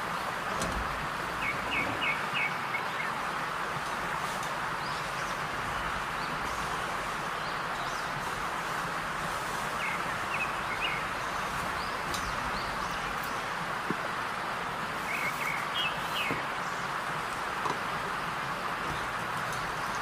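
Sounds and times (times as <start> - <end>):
steady background hiss: 0.0 - 20.0
small birds chirping: 1.2 - 20.0.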